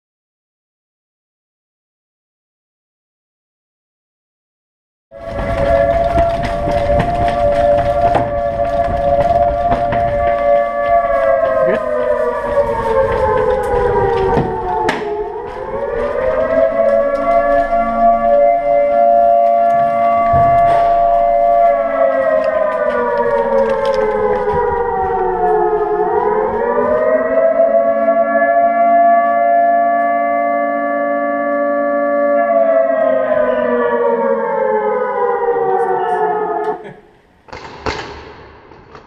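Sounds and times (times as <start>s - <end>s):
air-raid siren wailing: 5.1s - 37.1s.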